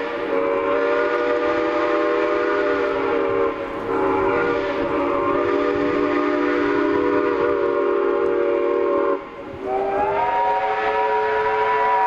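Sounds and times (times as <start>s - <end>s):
train whistle blast: 0.0s - 12.0s.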